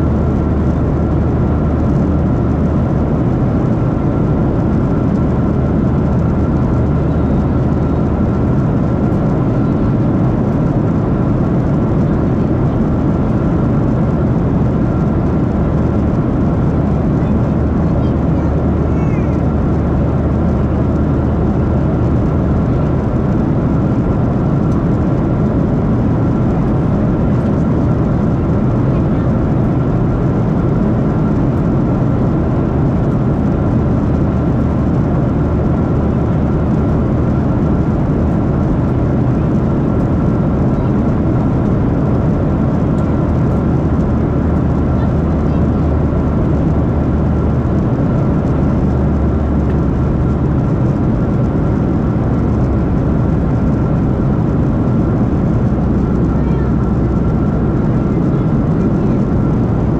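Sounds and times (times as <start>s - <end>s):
jet engines and airflow rushing: 0.0s - 59.9s.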